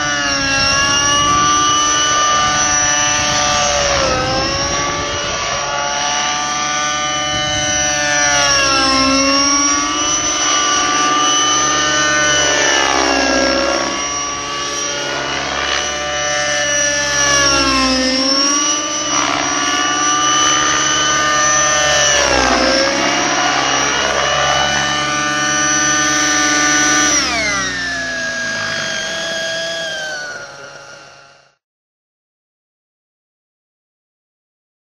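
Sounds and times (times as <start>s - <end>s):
rc helicopter engine and rotor: 0.0s - 31.6s.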